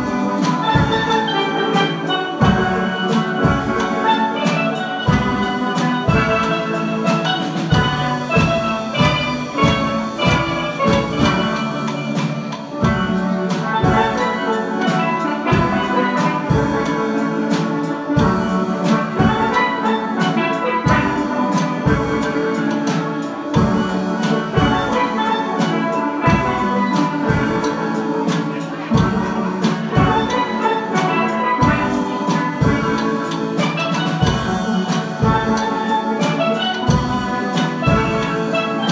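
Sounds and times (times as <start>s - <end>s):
steady drum beat: 0.0s - 38.9s
steel pans playing melody: 0.0s - 38.9s.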